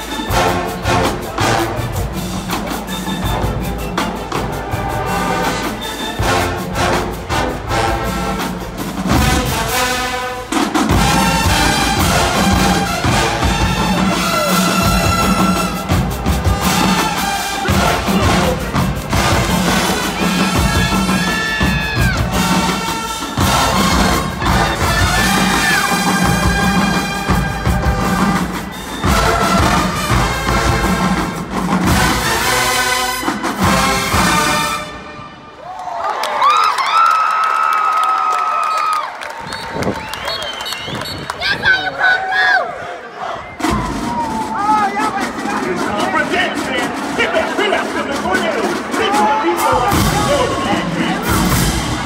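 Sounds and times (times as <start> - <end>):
pounding drums: 0.0 - 35.1, 43.5 - 52.0
marching band playing: 0.0 - 35.7, 43.2 - 52.0.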